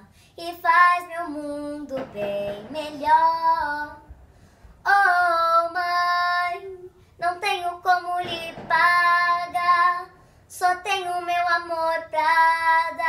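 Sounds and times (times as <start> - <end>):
girl singing unaccompanied: 0.0 - 13.0.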